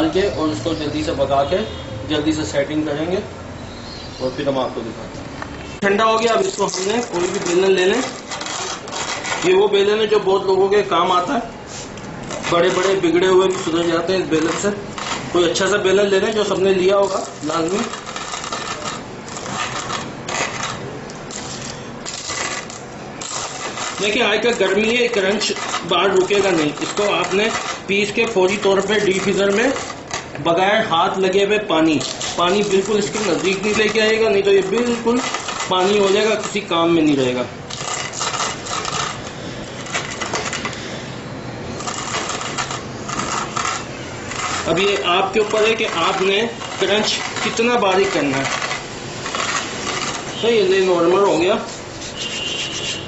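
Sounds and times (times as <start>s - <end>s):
rolling pin crushing sugar brittle: 5.9s - 11.4s, 12.1s - 41.0s, 41.7s - 52.8s.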